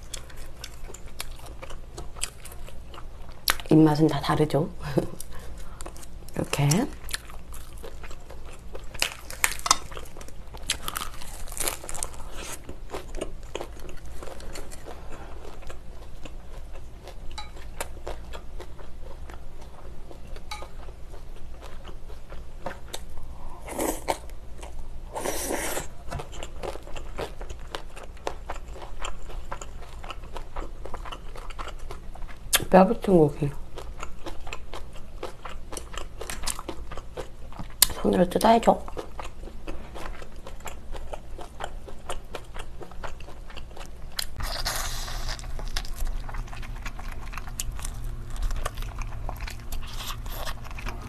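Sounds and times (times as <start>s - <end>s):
chewing and crunching: 0.0s - 3.8s, 5.0s - 51.0s.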